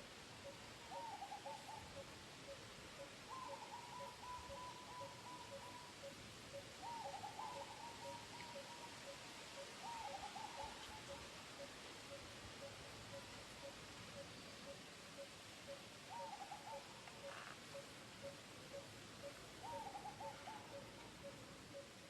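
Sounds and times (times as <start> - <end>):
bird hooting notes: 0.4 - 13.8, 16.1 - 21.9.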